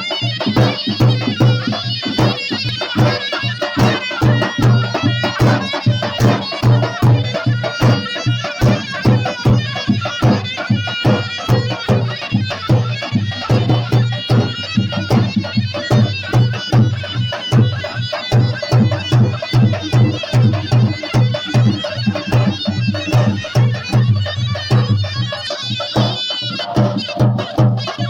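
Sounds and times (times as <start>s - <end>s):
reedy wind instrument melody: 0.0s - 28.0s
steady drum beat: 0.0s - 28.0s.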